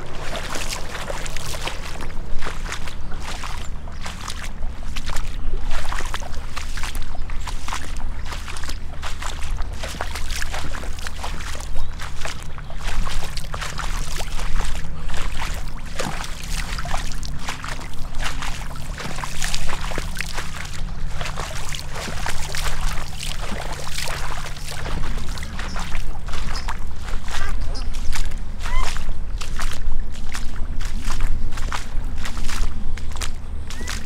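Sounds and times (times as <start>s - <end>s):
boots sloshing through water: 0.0s - 34.0s.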